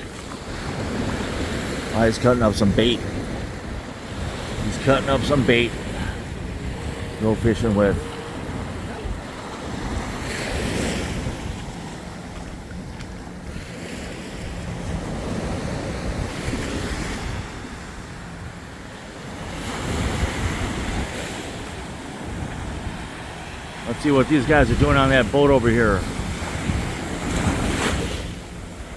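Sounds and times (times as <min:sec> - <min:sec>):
waves washing on beach: 0:00.0 - 0:28.9
wind buffeting microphone: 0:00.0 - 0:28.9.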